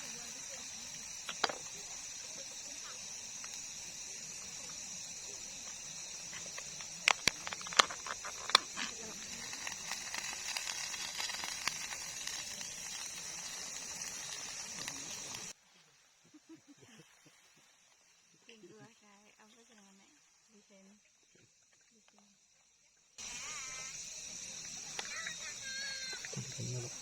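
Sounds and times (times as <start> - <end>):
steady high-pitched hiss: 0.0 - 27.0.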